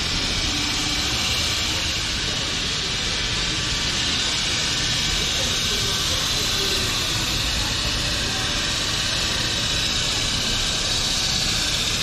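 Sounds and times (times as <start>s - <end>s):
city ambience hiss: 0.0s - 12.0s.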